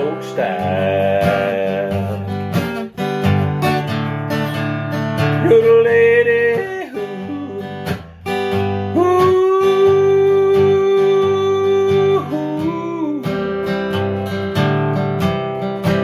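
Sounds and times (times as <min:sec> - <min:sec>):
acoustic blues guitar strumming: 0:00.0 - 0:16.0.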